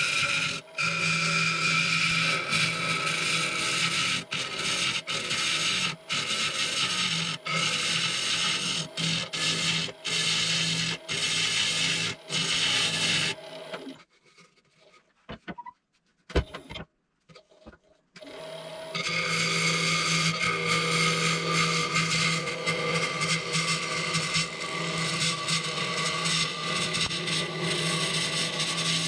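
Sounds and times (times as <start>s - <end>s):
lathe motor hum: 0.0s - 14.0s, 18.2s - 29.0s
tool rasping against wood: 0.0s - 15.2s, 17.3s - 29.0s.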